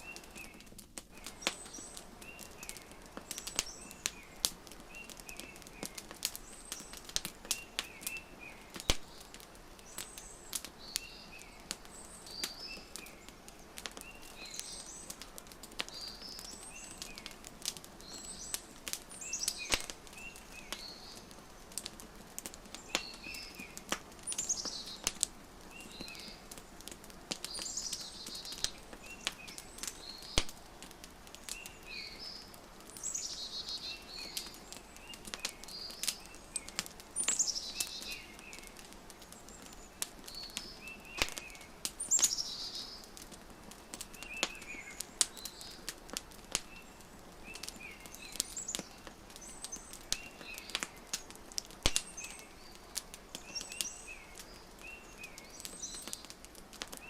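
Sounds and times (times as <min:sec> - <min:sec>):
songbirds chirping: 0:00.0 - 0:57.0
wood fire crackling: 0:00.0 - 0:57.0.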